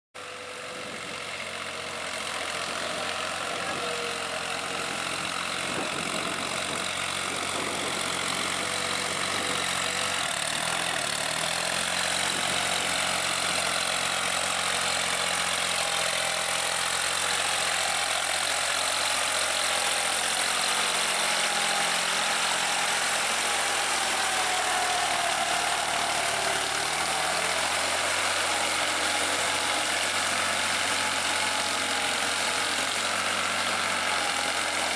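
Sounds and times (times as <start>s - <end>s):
rotary tiller churning mud: 0.2s - 34.9s
tractor diesel engine running: 0.2s - 34.9s.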